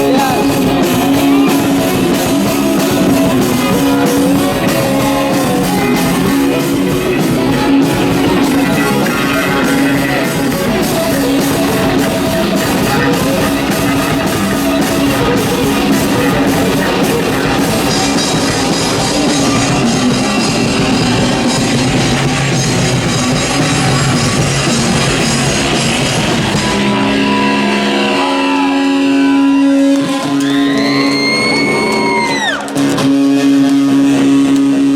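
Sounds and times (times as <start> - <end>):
held guitar chords: 0.0 - 34.9
rock band playing live: 0.0 - 34.9.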